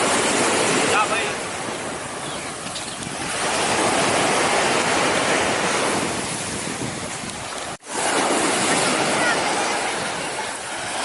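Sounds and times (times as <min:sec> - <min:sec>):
sea surf washing on beach: 0:00.0 - 0:11.0
wind buffeting microphone: 0:00.0 - 0:11.0.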